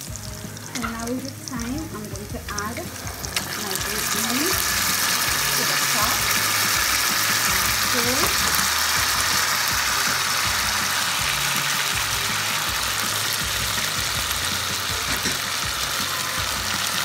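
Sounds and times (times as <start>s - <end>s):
food frying hiss: 0.0s - 17.0s.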